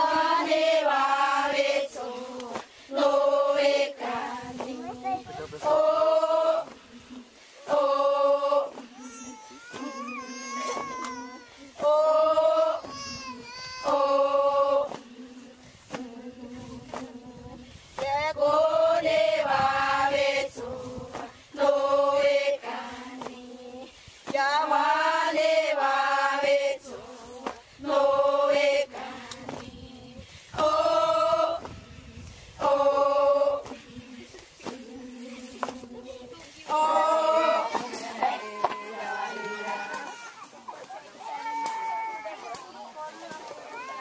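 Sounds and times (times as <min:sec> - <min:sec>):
women and girls chanting: 0:00.0 - 0:44.0.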